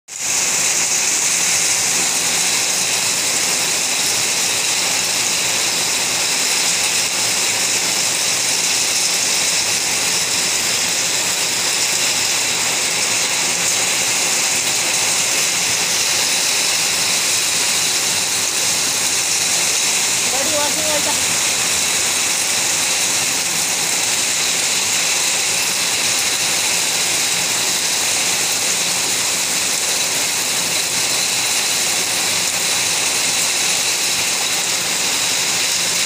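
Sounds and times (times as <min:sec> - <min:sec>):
heavy rain pouring: 0:00.1 - 0:36.0.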